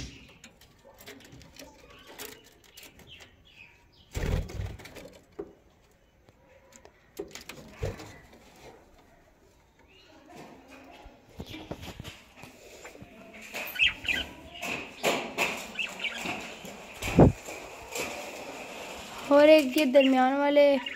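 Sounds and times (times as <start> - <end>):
birds chirping softly: 0.0 - 20.9.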